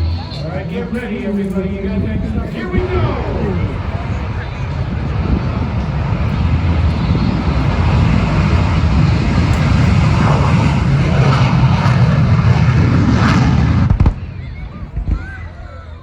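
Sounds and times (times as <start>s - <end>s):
jet engines running loud: 0.0s - 16.0s.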